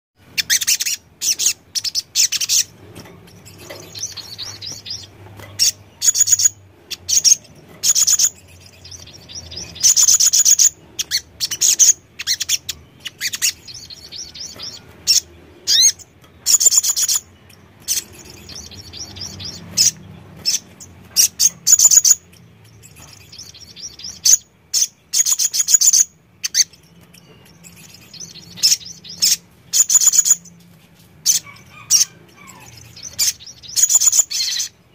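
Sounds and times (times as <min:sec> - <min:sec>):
sunbird twittering trills: 0:00.2 - 0:34.9.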